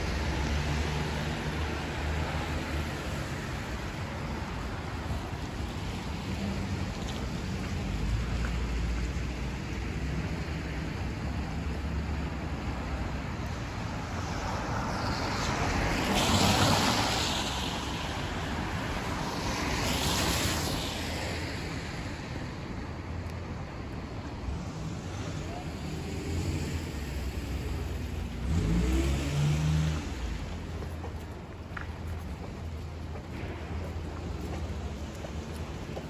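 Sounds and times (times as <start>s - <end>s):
vehicles swishing past on wet road: 0.0s - 36.0s.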